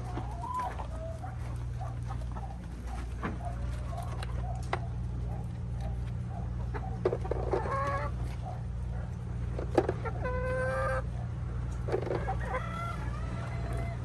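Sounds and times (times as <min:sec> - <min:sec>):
chickens clucking: 0:00.0 - 0:14.0
steady low hum: 0:00.0 - 0:14.0.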